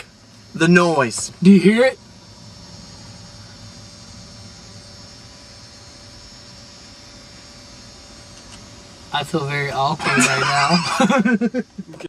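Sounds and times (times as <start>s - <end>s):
background hiss: 0.0s - 12.0s
low hum: 0.0s - 12.0s.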